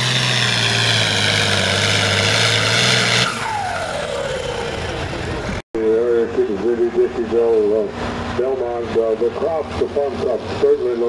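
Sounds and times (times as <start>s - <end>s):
tractor diesel engine at full throttle: 0.0s - 11.0s.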